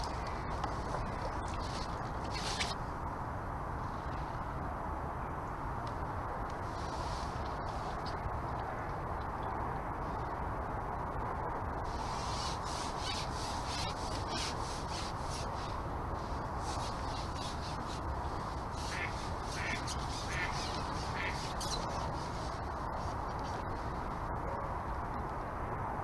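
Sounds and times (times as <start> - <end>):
rushing outdoor background: 0.0 - 26.0.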